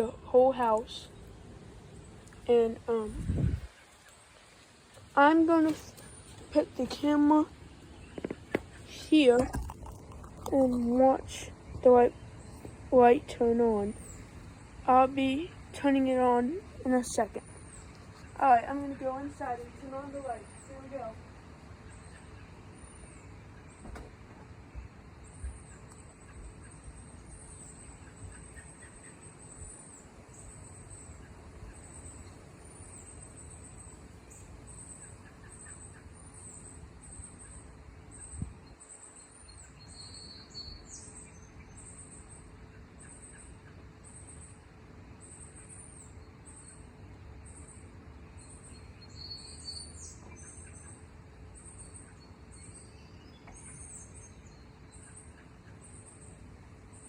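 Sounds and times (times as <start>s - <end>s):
faint steady hum: 0.0s - 57.0s
small birds chirping: 0.0s - 57.0s.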